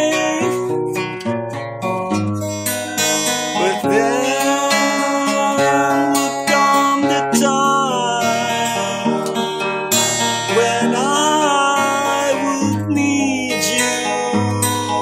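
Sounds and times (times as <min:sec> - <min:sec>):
acoustic guitar strumming: 0:00.0 - 0:15.0
wavering held melody line: 0:00.0 - 0:15.0.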